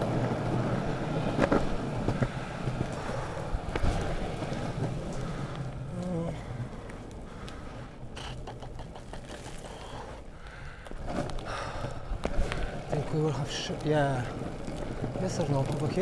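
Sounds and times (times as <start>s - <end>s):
longboard wheels rolling on asphalt: 0.0s - 16.0s.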